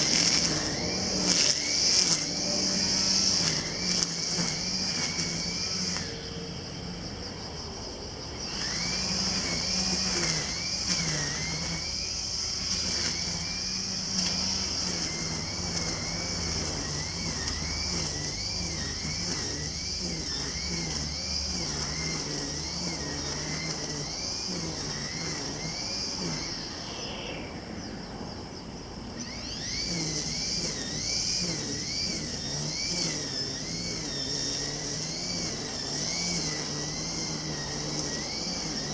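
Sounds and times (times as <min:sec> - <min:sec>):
brush cutter cutting grass: 0:00.0 - 0:27.5, 0:29.0 - 0:38.9.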